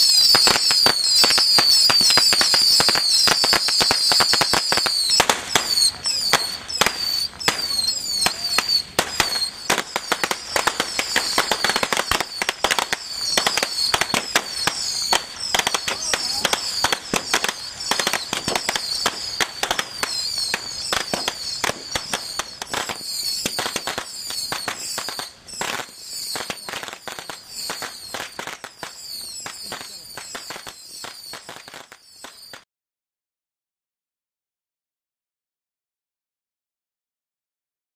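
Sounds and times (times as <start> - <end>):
firecrackers popping: 0.0 - 32.6
high falling whistles: 0.0 - 32.6.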